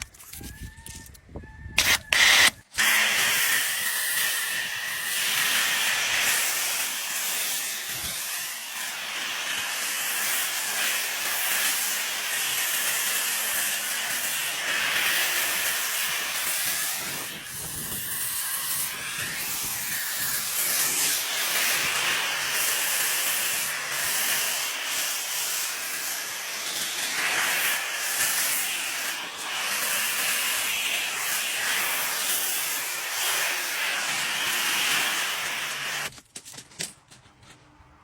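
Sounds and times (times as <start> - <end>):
pressure water spray hissing: 1.8 - 36.1
water spray sputters: 1.8 - 36.1.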